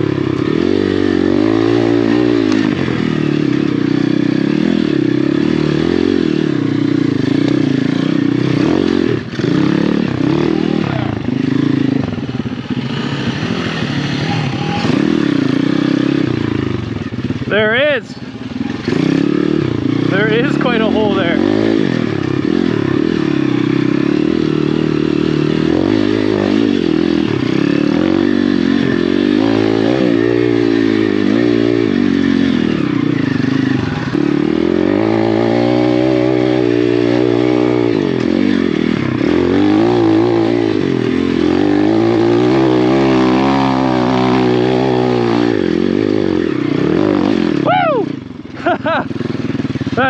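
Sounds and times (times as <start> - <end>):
motorbike engine revving under load: 0.0 - 50.0.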